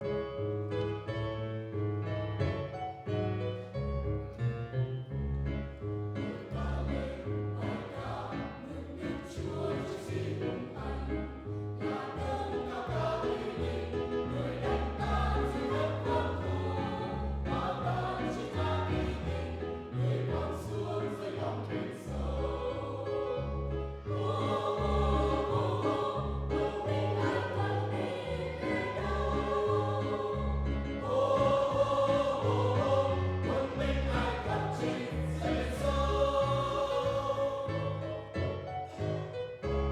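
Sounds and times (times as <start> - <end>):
church choir singing a hymn: 6.1 - 39.6.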